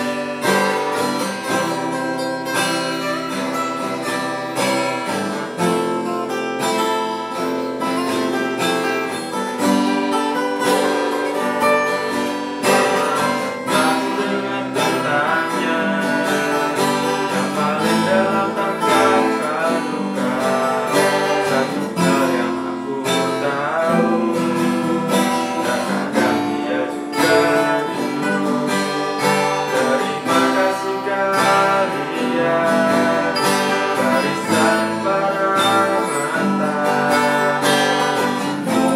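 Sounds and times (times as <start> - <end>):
acoustic guitars strumming: 0.0 - 38.9.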